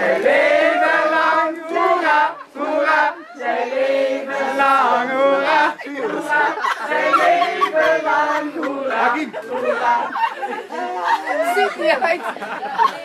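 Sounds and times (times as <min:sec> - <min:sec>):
group of people singing: 0:00.0 - 0:11.5.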